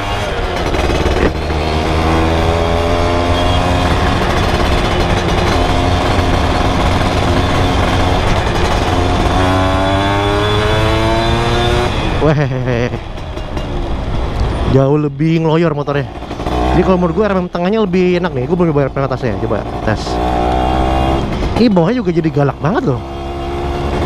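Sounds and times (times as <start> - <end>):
two-stroke motorcycle engine: 0.0 - 24.0.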